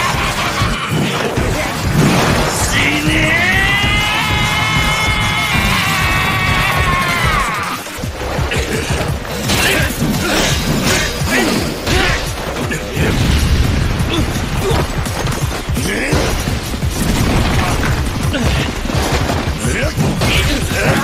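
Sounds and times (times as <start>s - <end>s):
fight hits and crashes: 0.0s - 7.6s, 8.2s - 21.0s
crumbling debris: 0.0s - 21.0s.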